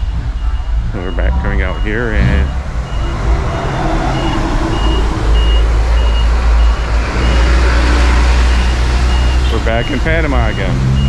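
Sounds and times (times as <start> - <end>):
loud low engine rumble: 0.0 - 11.0
reversing alarm beeping: 0.0 - 11.0
street traffic: 0.0 - 11.0.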